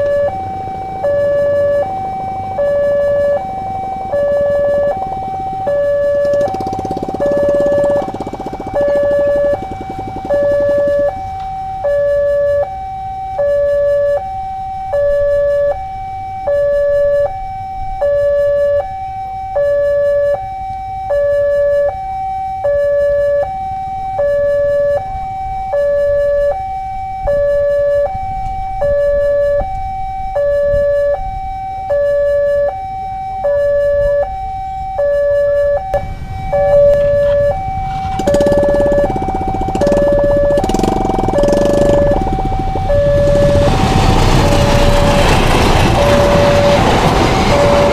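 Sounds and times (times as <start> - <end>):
two-tone crossing alarm: 0.0 - 47.9.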